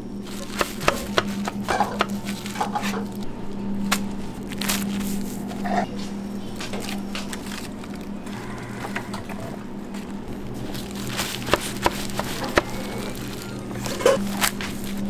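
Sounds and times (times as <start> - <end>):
gloves and seaweed rustling: 0.0 - 15.0
low hum of kitchen equipment: 0.0 - 15.0.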